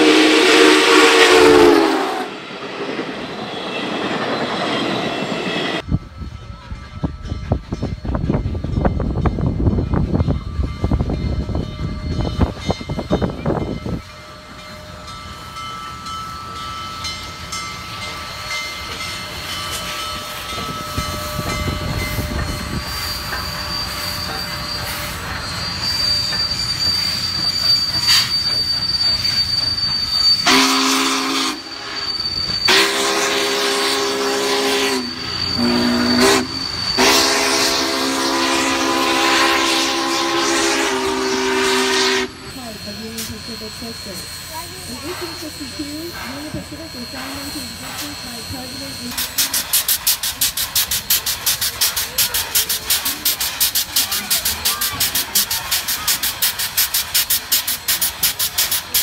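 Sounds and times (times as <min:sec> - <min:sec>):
steam locomotive chime whistle: 0:00.0 - 0:59.0
train wheels squealing: 0:00.0 - 0:59.0.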